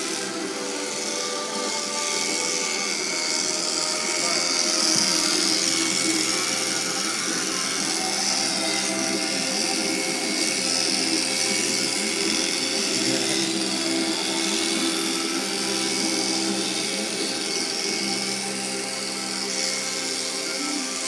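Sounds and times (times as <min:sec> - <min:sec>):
electric shears humming: 0:00.0 - 0:21.0.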